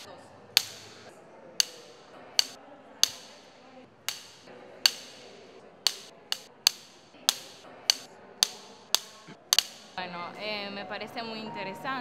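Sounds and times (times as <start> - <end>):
clapperboard clacking: 0.0 - 10.0.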